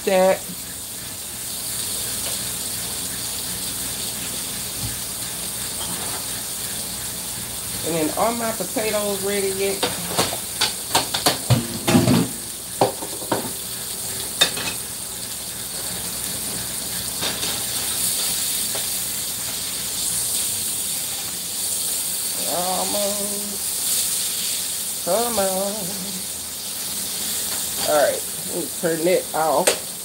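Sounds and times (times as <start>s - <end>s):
fish sizzling in a skillet: 0.0s - 30.0s.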